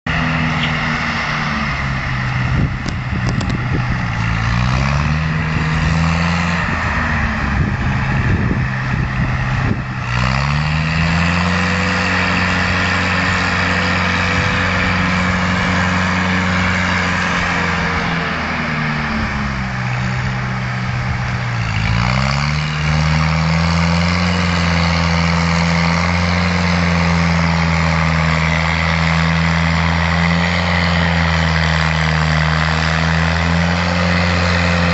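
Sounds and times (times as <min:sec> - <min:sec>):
tractor diesel engine straining: 0:00.1 - 0:34.9.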